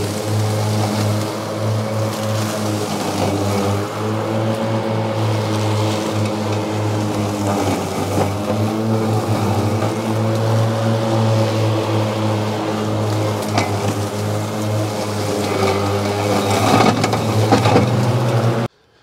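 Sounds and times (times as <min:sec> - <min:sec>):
electric mower motors humming: 0:00.0 - 0:18.7
mower cutting through reeds: 0:00.0 - 0:18.7.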